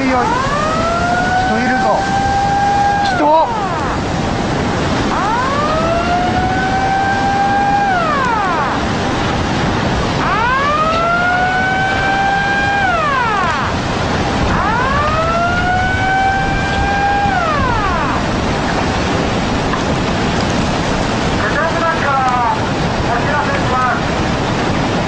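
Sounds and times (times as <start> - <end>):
warning siren wailing: 0.0 - 23.3
rushing flood water: 0.0 - 25.0.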